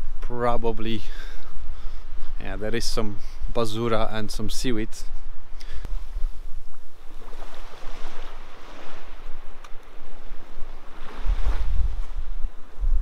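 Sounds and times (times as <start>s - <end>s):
wind buffeting microphone: 0.0s - 13.0s
sea waves washing on shore: 2.0s - 13.0s.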